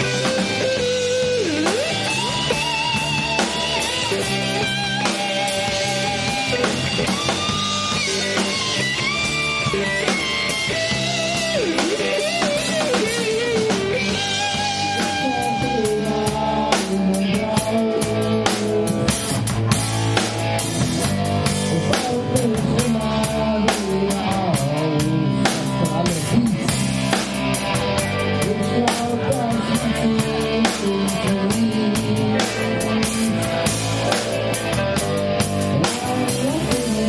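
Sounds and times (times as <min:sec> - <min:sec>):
bass guitar: 0:00.0 - 0:37.0
drums: 0:00.0 - 0:37.0
lead electric guitar melody: 0:00.0 - 0:37.0.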